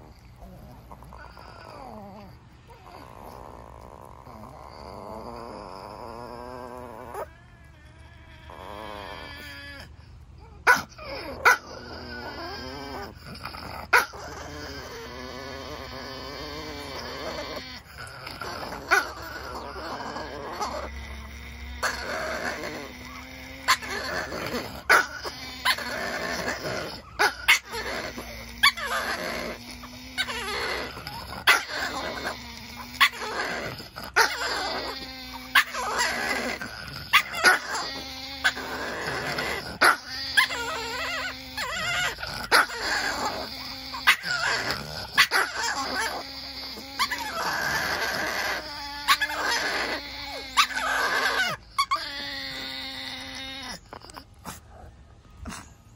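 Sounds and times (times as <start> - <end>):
small dogs growling: 0.0 - 55.9.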